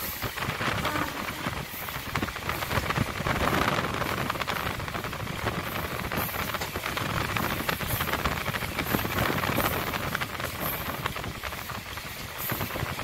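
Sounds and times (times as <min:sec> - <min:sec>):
train wind and rolling noise: 0:00.0 - 0:13.0.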